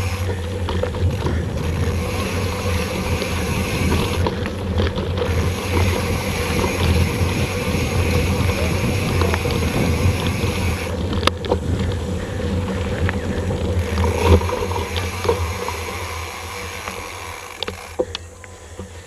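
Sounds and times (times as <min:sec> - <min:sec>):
bike rattles and clicks: 0:00.0 - 0:19.0
wind buffeting microphone: 0:00.0 - 0:19.0.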